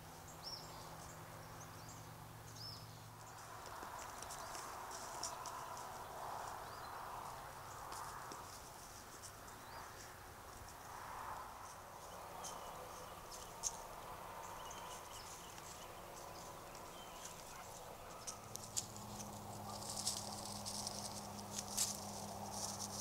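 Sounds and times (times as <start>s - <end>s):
dry leaves rustling and crackling: 3.2s - 23.0s.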